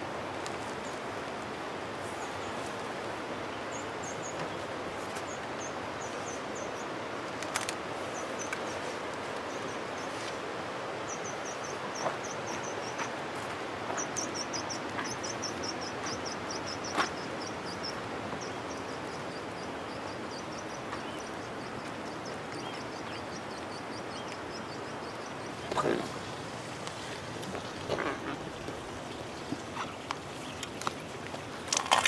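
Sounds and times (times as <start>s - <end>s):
steady hiss: 0.0s - 31.7s.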